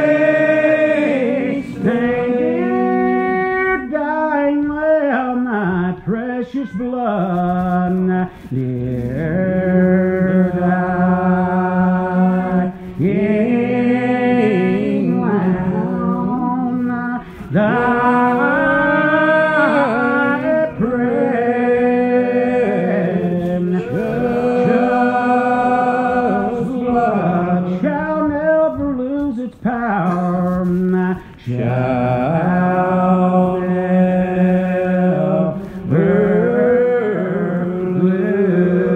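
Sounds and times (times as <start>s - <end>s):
slow hymn singing: 0.0s - 38.9s.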